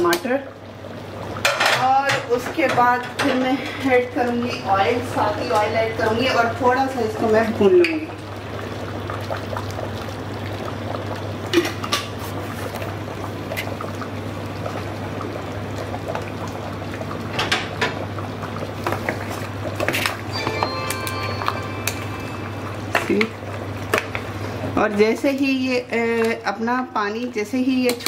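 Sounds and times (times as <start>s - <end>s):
broth boiling with small pops: 0.0s - 28.0s.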